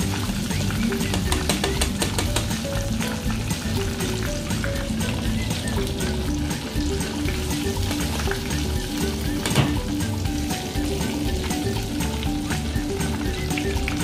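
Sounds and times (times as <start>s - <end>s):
deep-frying crackling sizzle: 0.0s - 14.0s.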